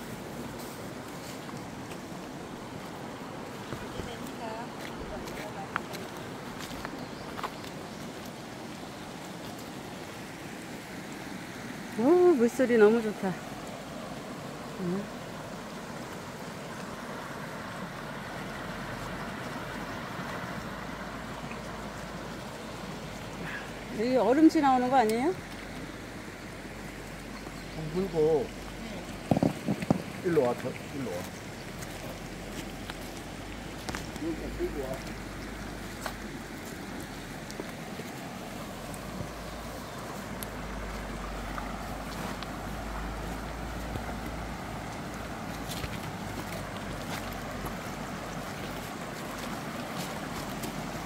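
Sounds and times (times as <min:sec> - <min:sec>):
stream flowing over stones: 0:00.0 - 0:51.0.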